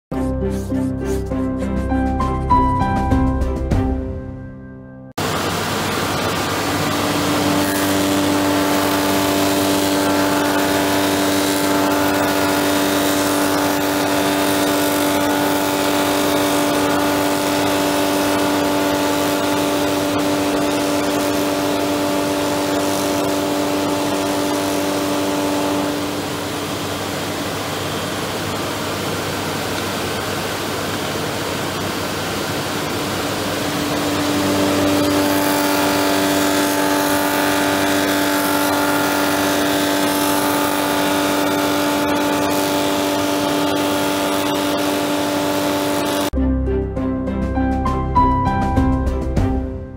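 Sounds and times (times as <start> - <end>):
lathe machine hum: 5.2 - 46.4.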